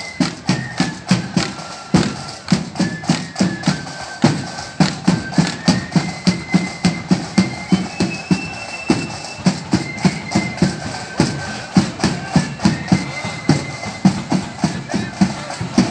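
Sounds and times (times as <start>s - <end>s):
marching band playing: 0.0s - 15.9s
steady drum beat: 0.0s - 15.9s.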